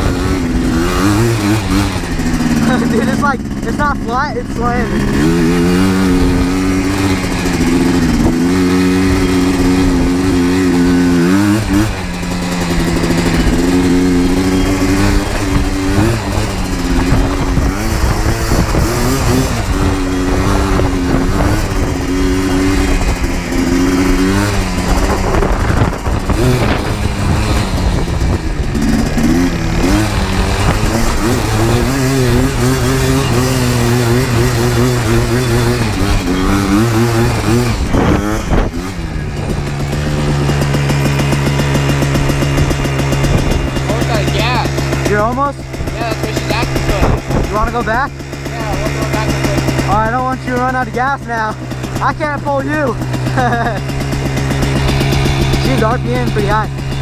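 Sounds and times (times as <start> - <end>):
two-stroke engine revving: 0.0 - 57.0.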